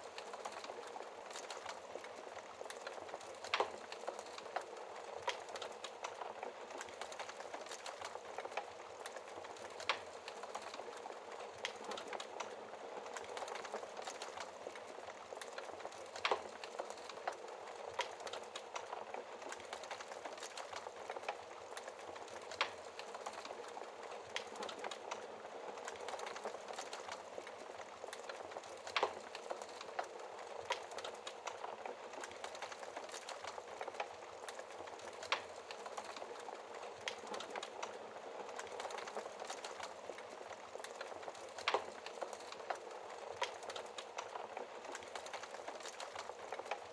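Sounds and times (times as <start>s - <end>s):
wood fire crackling: 0.0s - 46.9s
fire popping: 0.1s - 46.9s.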